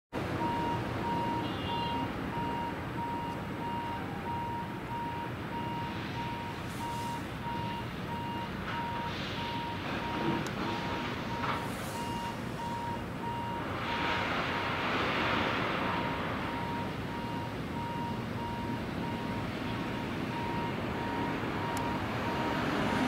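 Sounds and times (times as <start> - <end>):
steady rumbling background noise: 0.2 - 23.0
electronic warning beeper: 0.4 - 14.0, 15.9 - 22.7.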